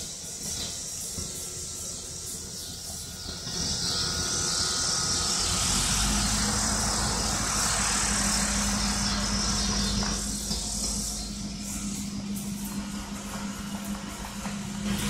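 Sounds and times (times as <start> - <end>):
high steady hiss: 0.0 - 15.0
vehicle engine humming: 2.9 - 15.0.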